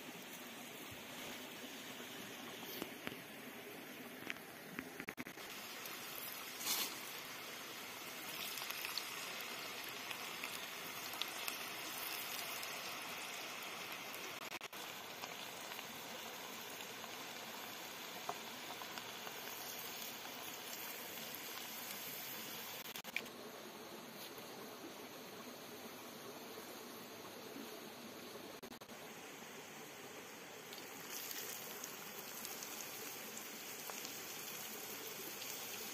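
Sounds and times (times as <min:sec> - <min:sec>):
potatoes deep-frying in oil: 0:00.0 - 0:23.3, 0:24.3 - 0:35.9.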